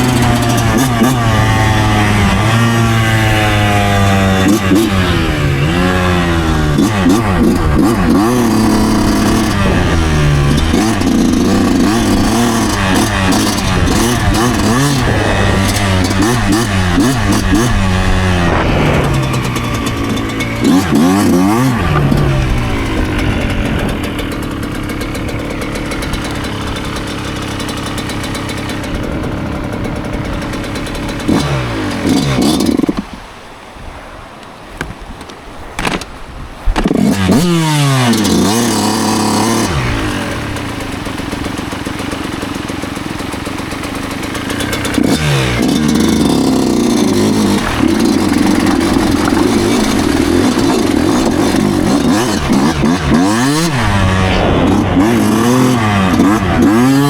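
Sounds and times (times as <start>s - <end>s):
two-stroke motorcycle engine revving: 0.0s - 33.4s, 36.6s - 57.0s.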